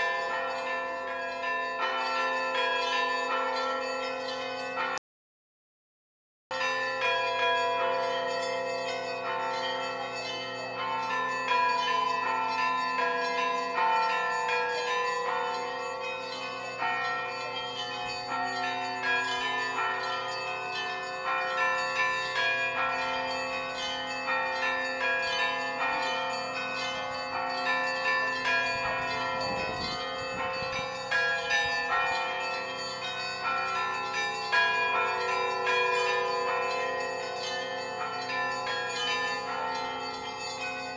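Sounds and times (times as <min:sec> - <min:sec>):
large bells humming: 0:06.6 - 0:40.9.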